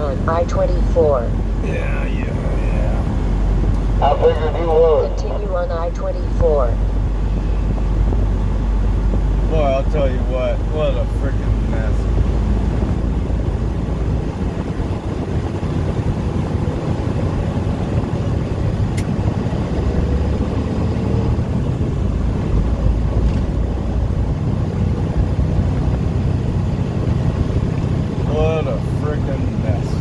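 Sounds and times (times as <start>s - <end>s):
road noise: 0.0s - 30.0s
truck engine running: 0.0s - 30.0s.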